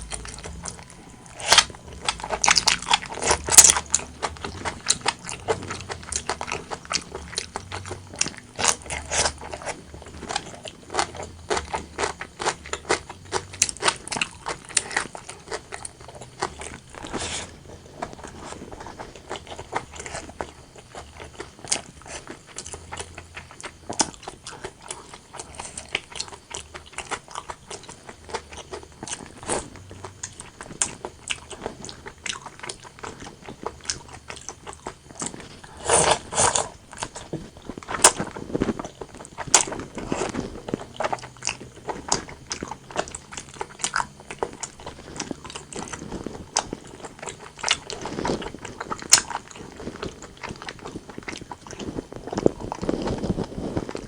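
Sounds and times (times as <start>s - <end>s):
person chewing close-miked: 0.0s - 54.0s.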